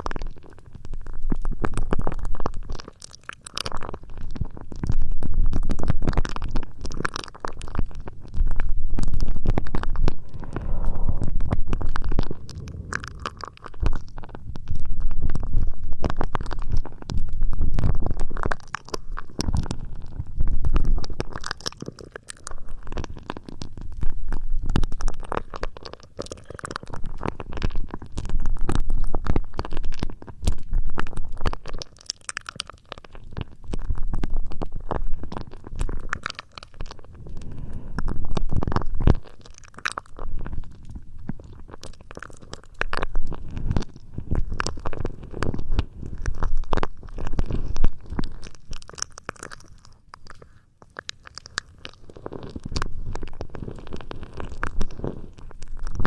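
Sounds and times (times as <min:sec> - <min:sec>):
crackling against microphone: 0:00.0 - 0:56.0.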